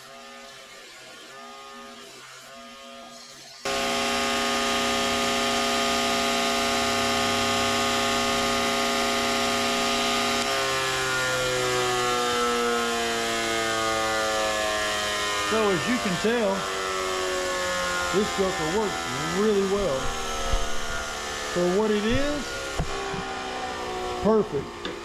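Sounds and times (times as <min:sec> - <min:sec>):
grinder motor whine: 0:00.0 - 0:25.0.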